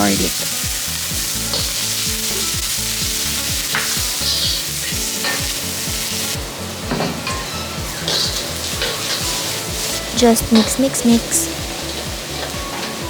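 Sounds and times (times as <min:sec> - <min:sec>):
garlic and onion sizzling in oil: 0:00.0 - 0:13.0
wok scraping: 0:00.0 - 0:13.0.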